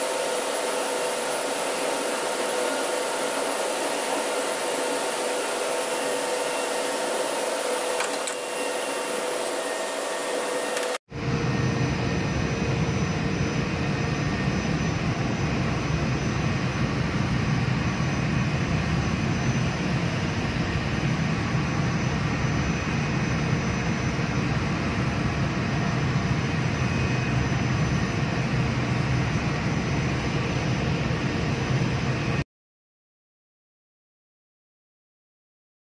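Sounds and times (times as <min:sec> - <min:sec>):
whirring hum of machinery: 0:00.0 - 0:32.4.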